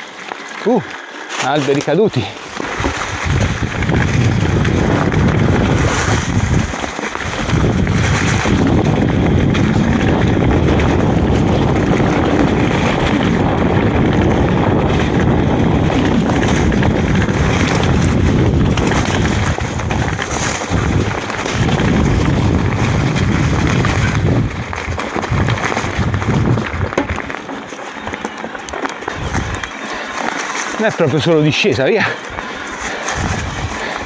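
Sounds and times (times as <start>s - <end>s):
mountain bike rumbling on trail: 0.0s - 34.0s
wind buffeting microphone: 1.8s - 34.0s.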